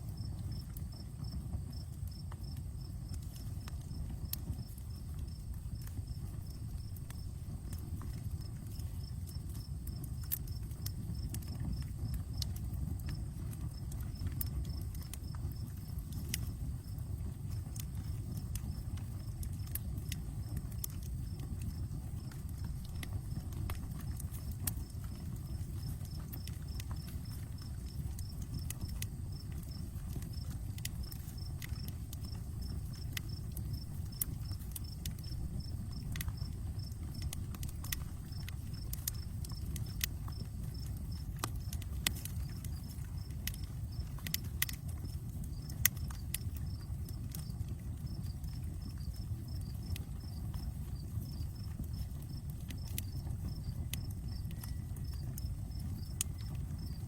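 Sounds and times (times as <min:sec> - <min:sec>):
campfire crackling and popping: 0:00.0 - 0:57.0
low steady rumble: 0:00.0 - 0:57.0
cricket chirping: 0:00.1 - 0:57.0.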